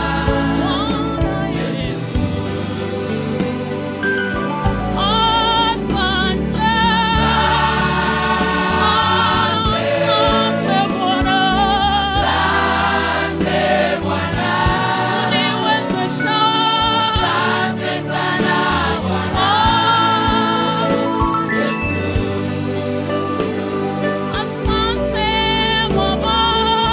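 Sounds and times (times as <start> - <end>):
choir singing gospel: 0.0 - 4.0, 4.6 - 26.9
sustained bass: 0.0 - 26.9.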